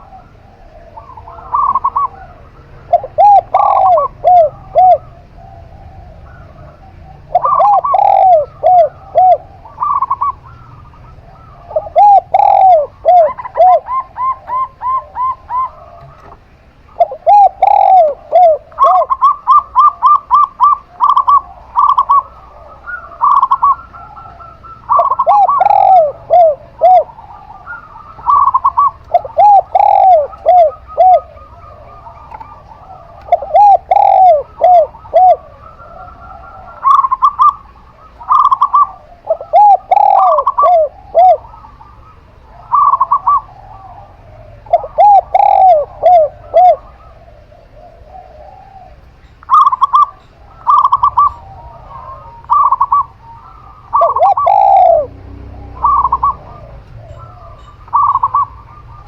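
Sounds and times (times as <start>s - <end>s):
doves cooing: 0.0s - 59.0s.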